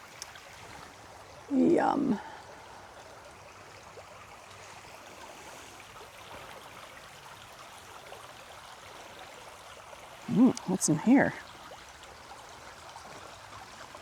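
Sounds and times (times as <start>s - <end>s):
creek running: 0.0s - 14.0s.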